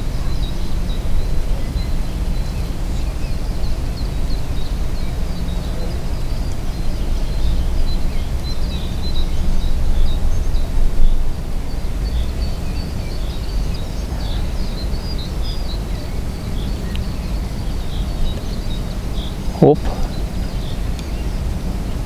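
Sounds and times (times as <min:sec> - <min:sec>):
small birds chirping: 0:00.0 - 0:22.0
wind buffeting microphone: 0:00.0 - 0:22.0.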